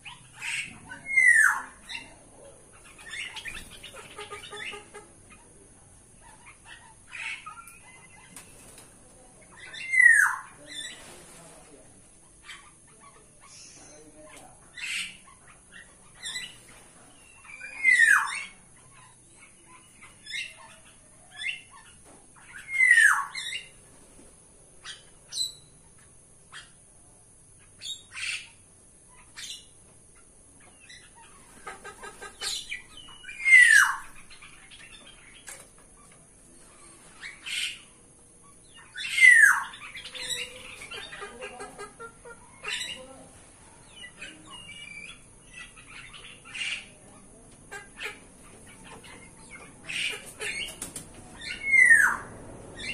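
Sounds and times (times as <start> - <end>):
caged birds calling: 0.0 - 52.9.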